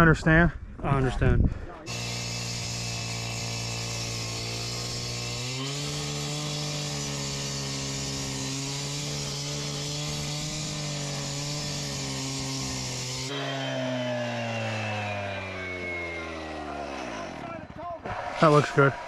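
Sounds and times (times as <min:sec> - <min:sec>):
power saw cutting: 0:01.8 - 0:19.0.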